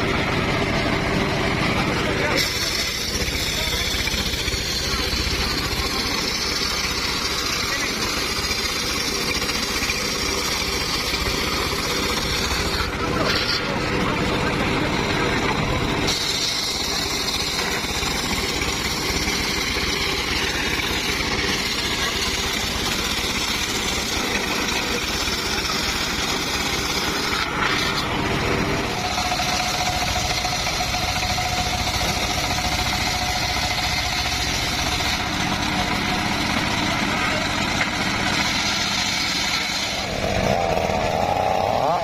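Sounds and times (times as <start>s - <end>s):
sawmill engine running: 0.0s - 42.0s
steady saw whine: 0.0s - 42.0s.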